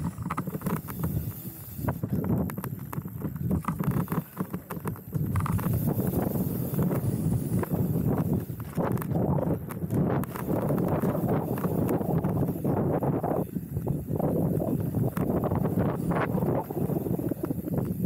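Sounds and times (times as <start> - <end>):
bike rattling over bumps: 0.0 - 18.0
tyres rumbling on dirt: 0.0 - 18.0.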